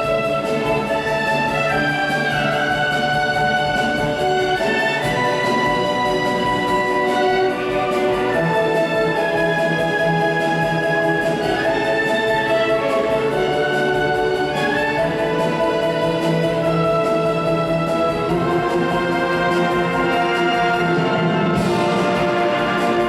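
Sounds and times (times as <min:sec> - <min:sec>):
orchestra playing slow chords: 0:00.0 - 0:23.0.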